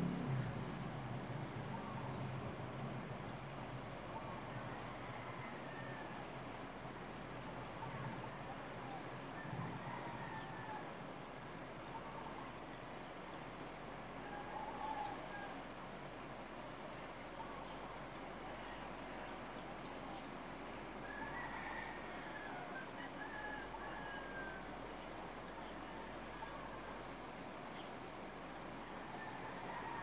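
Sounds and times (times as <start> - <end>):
high insect trill: 0.0 - 30.0.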